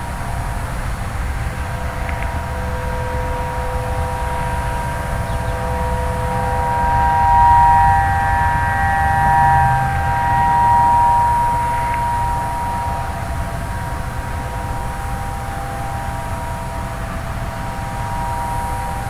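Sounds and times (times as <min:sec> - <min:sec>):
distant warning sirens: 0:00.0 - 0:19.0
low background rumble: 0:00.0 - 0:19.0.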